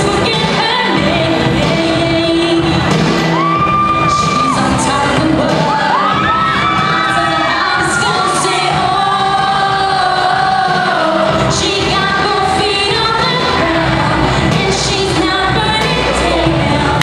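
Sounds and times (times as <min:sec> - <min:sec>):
girl singing pop song: 0:00.0 - 0:17.0.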